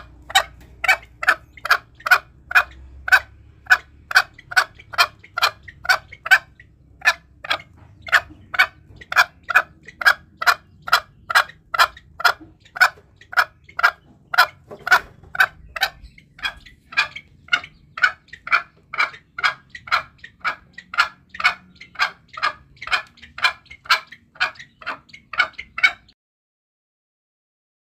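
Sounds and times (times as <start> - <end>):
junglefowl clucking: 0.0 - 26.2.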